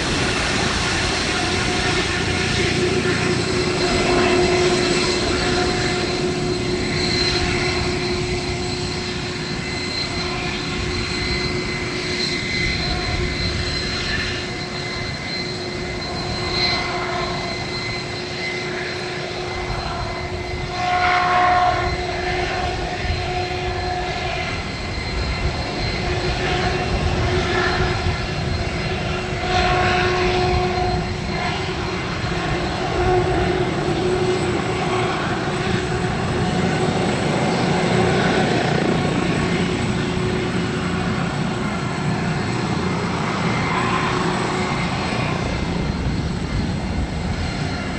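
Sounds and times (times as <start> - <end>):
helicopter rotor chop: 0.0 - 20.8, 21.8 - 47.9
helicopter engine whine: 0.0 - 47.9.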